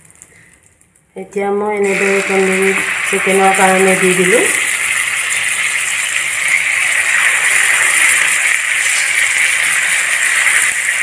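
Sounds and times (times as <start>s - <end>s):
chicken sizzling in hot oil: 1.8s - 11.0s.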